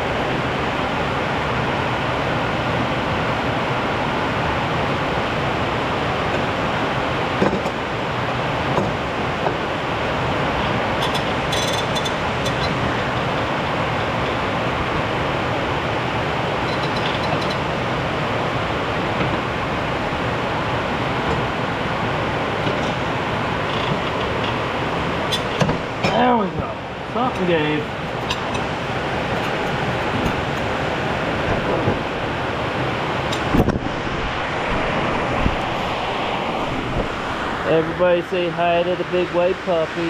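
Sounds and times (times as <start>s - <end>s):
rain hiss: 0.0s - 40.0s.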